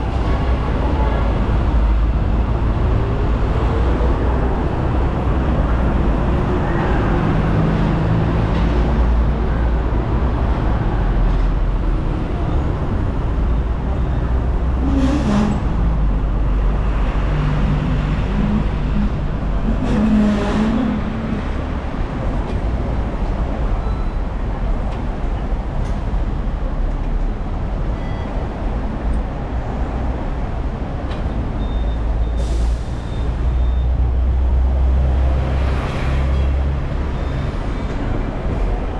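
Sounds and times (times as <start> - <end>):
street traffic: 0.0 - 38.9
tram rumbling: 0.0 - 38.9.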